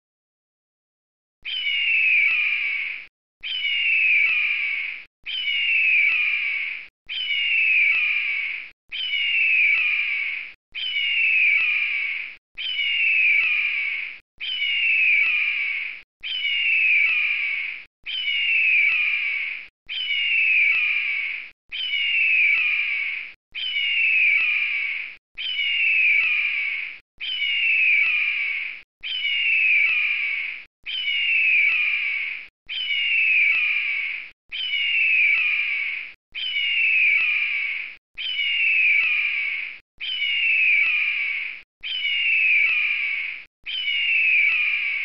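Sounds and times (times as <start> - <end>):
raspy bird call: 1.4 - 45.0.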